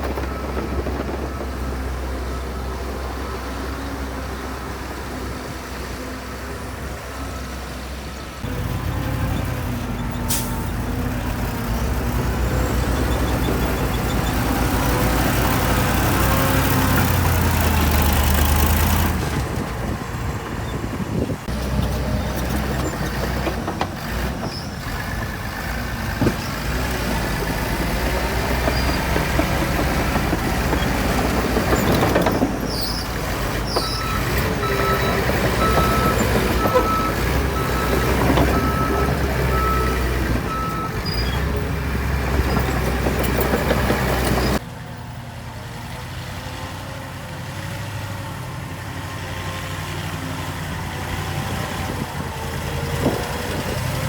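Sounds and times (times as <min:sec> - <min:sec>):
diesel machinery engine: 0:00.0 - 0:54.0.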